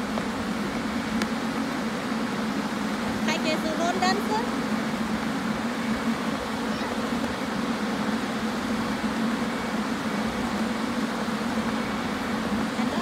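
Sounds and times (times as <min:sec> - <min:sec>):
electric blower fans humming: 0:00.0 - 0:13.0.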